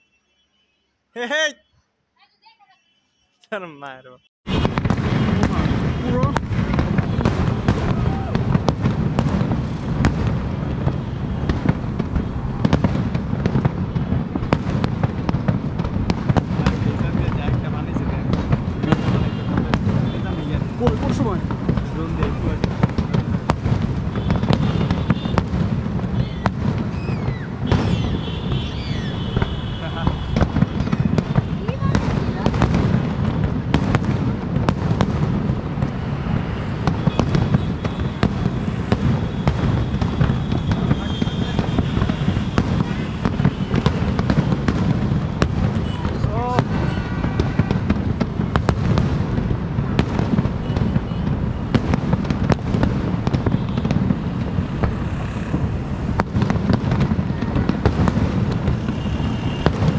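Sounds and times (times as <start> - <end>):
fireworks bangs and crackles: 4.4 - 59.9.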